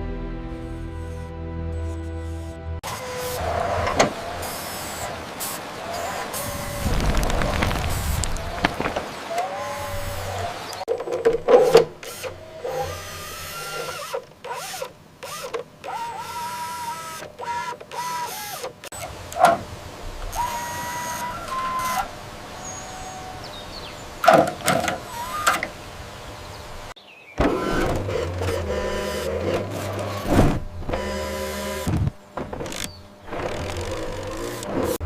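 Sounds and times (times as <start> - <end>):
small electric motors whining: 1.8 - 10.9, 11.6 - 19.2, 20.2 - 23.6, 24.7 - 25.8, 27.4 - 35.0.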